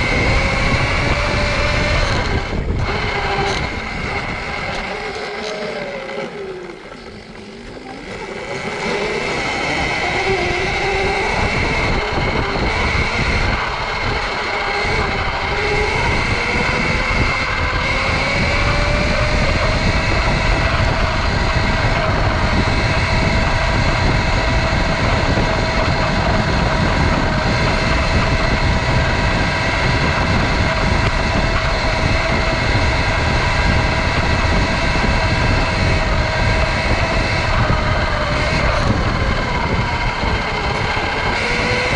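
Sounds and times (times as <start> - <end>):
electric motor whine: 0.0 - 41.9
rushing wind: 0.0 - 41.9.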